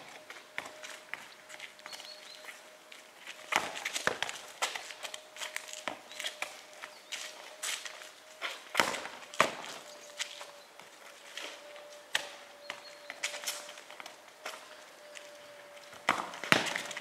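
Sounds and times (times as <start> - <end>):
shoes tapping on paving: 0.0 - 17.0.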